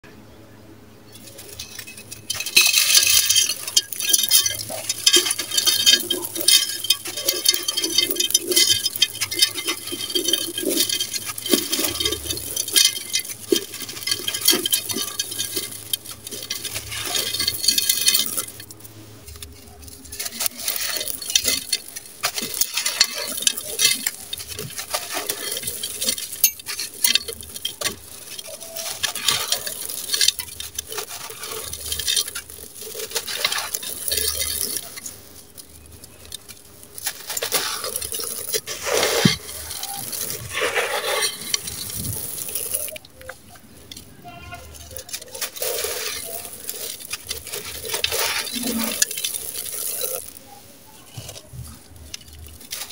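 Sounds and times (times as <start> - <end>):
grains pattering down: 1.1 - 52.9.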